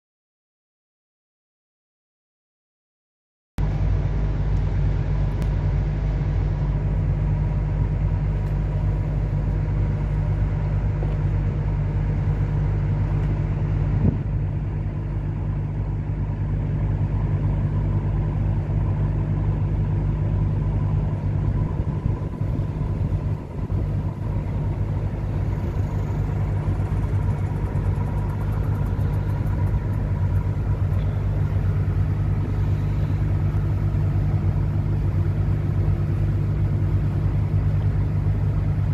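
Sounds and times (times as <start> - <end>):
diesel engines rumbling: 3.6 - 38.9
faint steady hum: 3.6 - 38.9.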